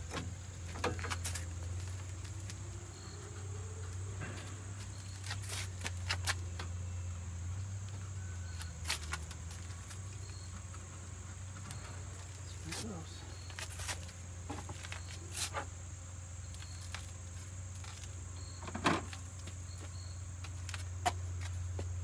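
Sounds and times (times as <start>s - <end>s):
insects chirring: 0.0s - 22.0s
low engine hum: 0.0s - 22.0s.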